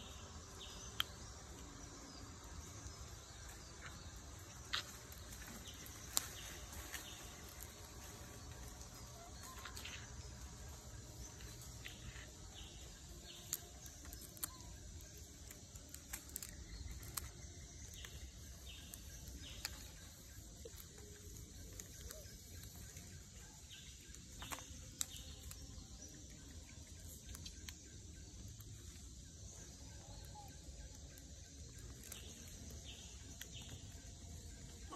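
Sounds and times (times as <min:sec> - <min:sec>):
insects calling: 0:00.0 - 0:34.9.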